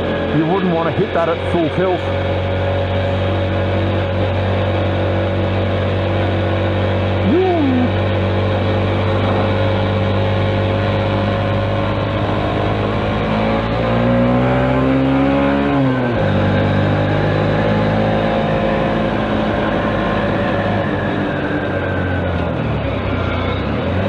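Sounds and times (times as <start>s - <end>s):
motorcycle engine running: 0.0s - 24.0s
rising and falling whine: 2.8s - 23.7s.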